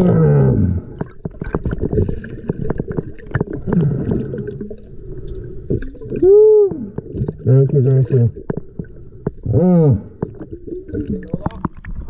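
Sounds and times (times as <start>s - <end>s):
muffled water sloshing: 0.0s - 12.0s.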